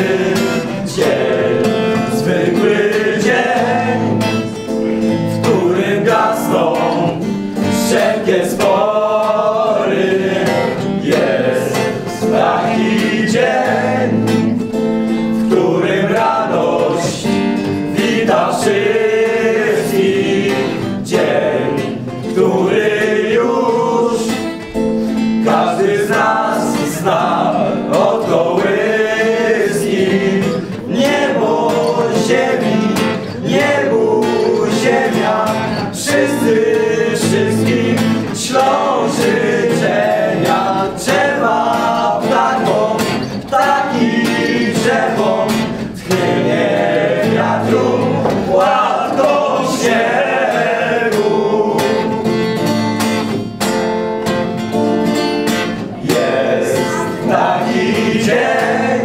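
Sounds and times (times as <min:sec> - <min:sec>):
men singing a carol: 0:00.0 - 0:52.7, 0:56.0 - 0:59.0
acoustic guitar: 0:00.0 - 0:59.0.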